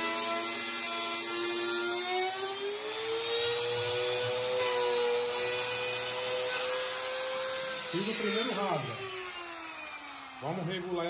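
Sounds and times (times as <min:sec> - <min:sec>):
router bit cutting wood: 0:00.0 - 0:11.0
router high whine: 0:00.0 - 0:11.0.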